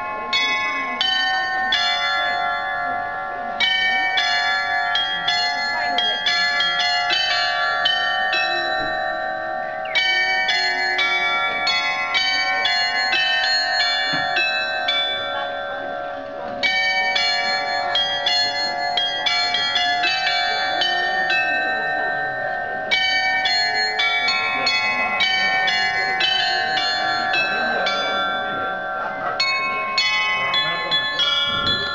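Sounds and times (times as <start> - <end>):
glockenspiel bells playing a tune: 0.0 - 31.9.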